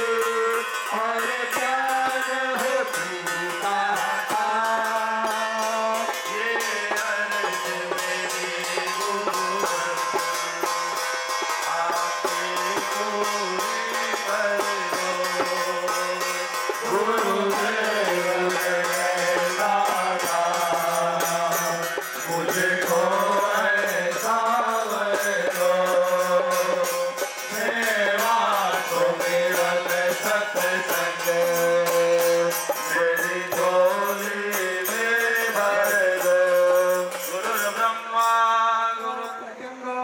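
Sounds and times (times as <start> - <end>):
small percussion beat: 0.0 - 39.4
melodic chant singing: 0.0 - 40.0.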